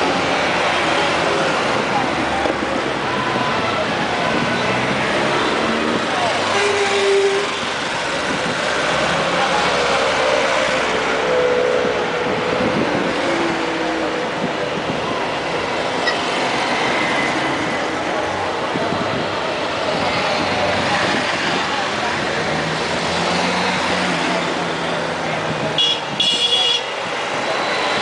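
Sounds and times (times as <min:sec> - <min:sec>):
crowd chatter: 0:00.0 - 0:28.0.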